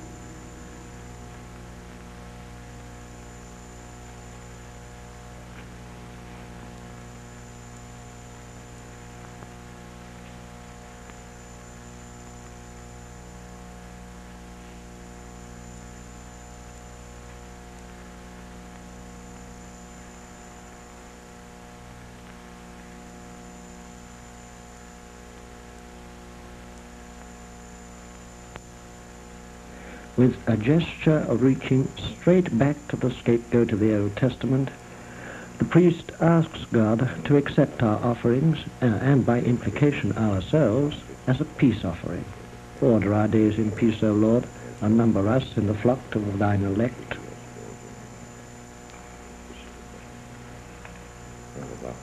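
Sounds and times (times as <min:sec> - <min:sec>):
electrical mains hum: 0:00.0 - 0:52.0
thin high whine: 0:00.0 - 0:52.0.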